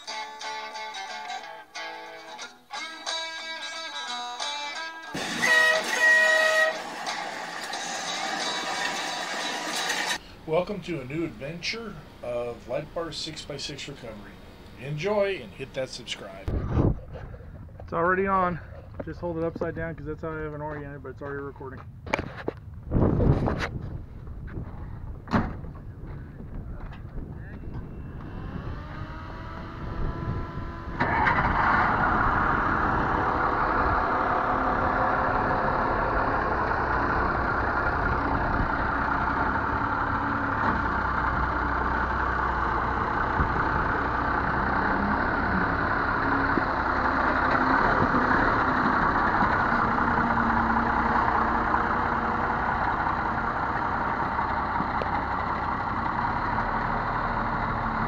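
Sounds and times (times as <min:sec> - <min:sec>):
diesel truck engine running: 0:05.1 - 0:58.0.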